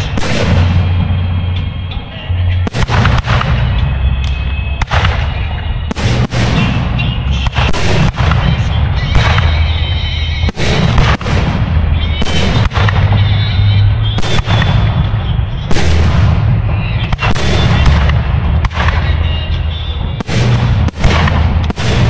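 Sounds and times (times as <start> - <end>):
music playing: 0.0 - 22.0.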